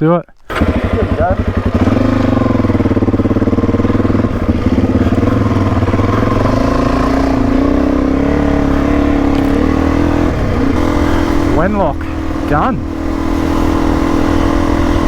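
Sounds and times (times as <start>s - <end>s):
motorcycle engine on dirt track: 0.4s - 15.0s.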